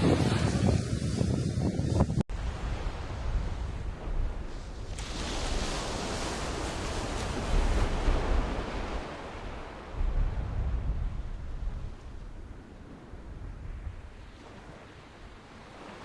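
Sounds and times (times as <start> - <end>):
wind rumble on microphone: 0.0 - 16.0
sea wave breaking: 2.4 - 16.0.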